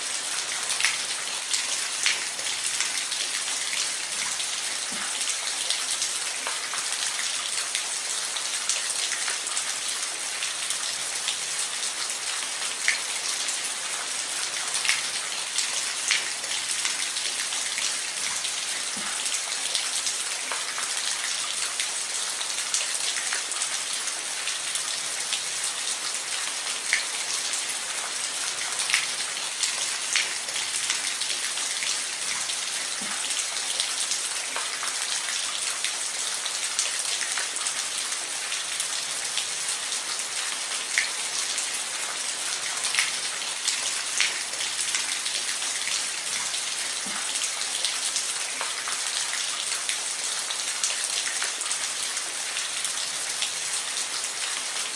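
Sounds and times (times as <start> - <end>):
rain falling on a roof: 0.0 - 54.9.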